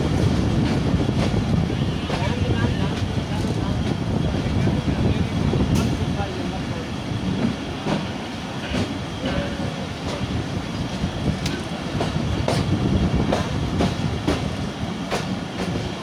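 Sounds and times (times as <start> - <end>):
train coach rumbling: 0.0 - 16.0.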